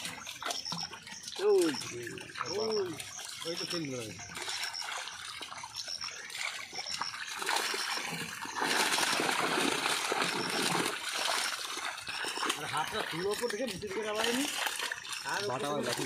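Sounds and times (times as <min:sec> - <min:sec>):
water splashing from thrashing fish: 0:00.0 - 0:16.0.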